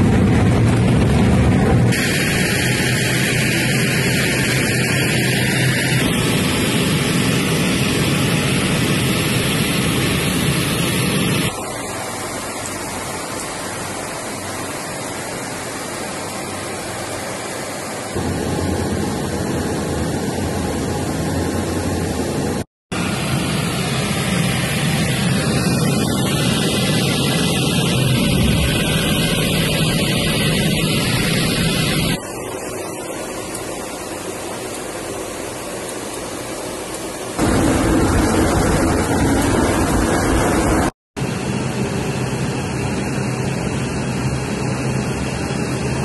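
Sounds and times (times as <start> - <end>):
aircraft cabin engine noise: 0.0 - 46.0.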